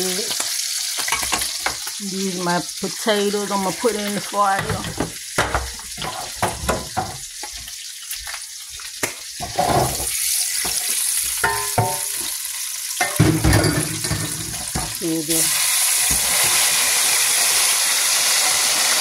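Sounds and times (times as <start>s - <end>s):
hot fat sizzling: 0.0s - 19.0s.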